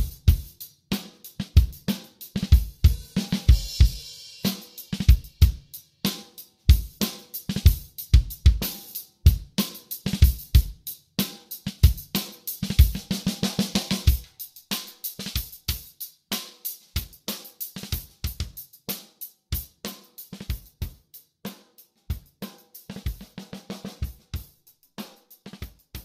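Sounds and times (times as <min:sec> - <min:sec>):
drum kit music: 0:00.0 - 0:26.0.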